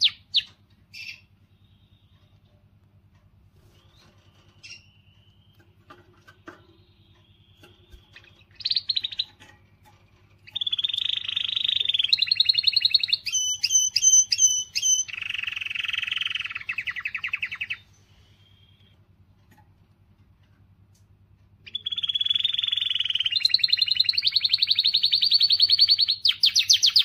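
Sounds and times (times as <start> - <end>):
canary singing trills: 0.0 - 19.1, 21.5 - 27.0.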